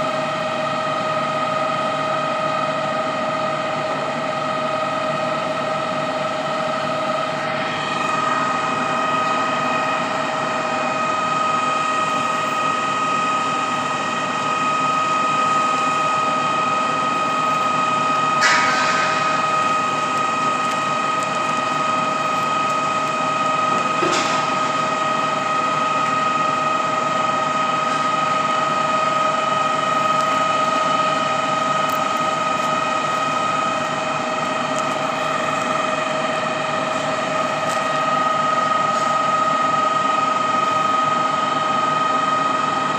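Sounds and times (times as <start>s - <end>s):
hydraulic pump engine whining: 0.0s - 42.9s.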